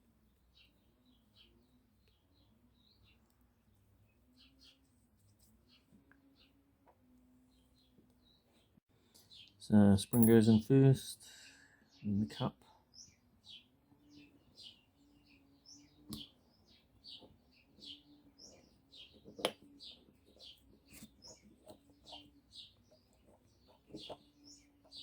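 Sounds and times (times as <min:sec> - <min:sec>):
small bird chirping: 0:00.2 - 0:05.0, 0:05.6 - 0:06.6, 0:07.4 - 0:10.4, 0:12.9 - 0:25.0.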